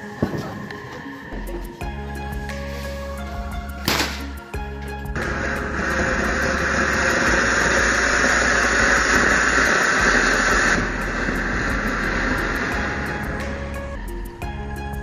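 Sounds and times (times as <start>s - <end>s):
firework spraying sparks hissing: 0.0s - 14.7s.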